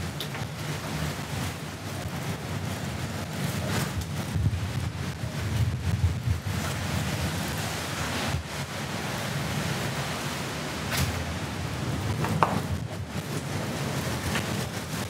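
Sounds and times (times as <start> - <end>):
wind rushing outside: 0.0 - 15.0.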